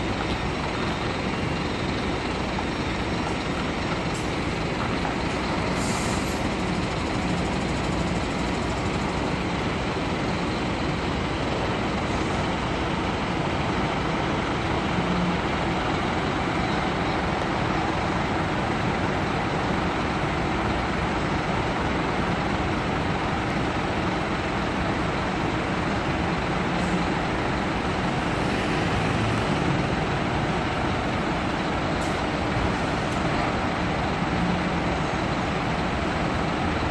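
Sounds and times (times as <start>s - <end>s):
diesel engines idling: 0.0s - 36.9s.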